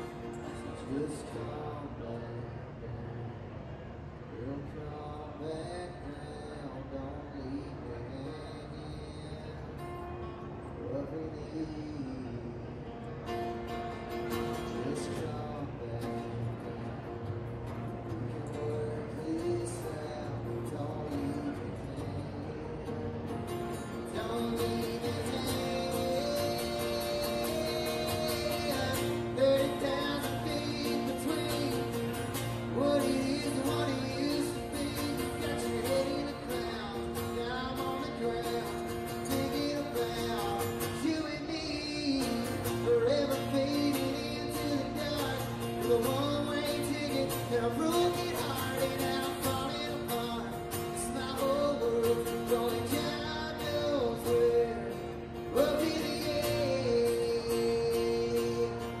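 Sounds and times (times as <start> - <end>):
guitar chords: 0.0 - 2.2, 8.6 - 59.0.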